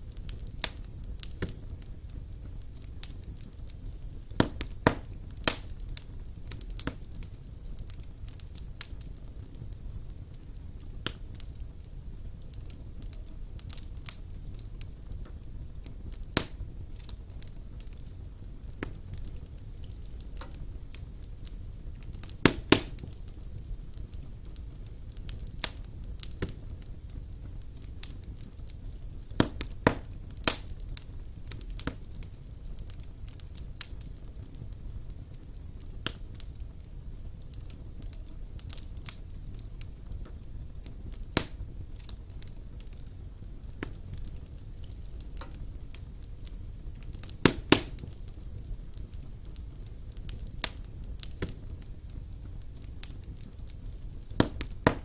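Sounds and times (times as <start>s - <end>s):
burning logs crackling and popping: 0.0s - 55.0s
fire low rumble: 0.0s - 55.0s.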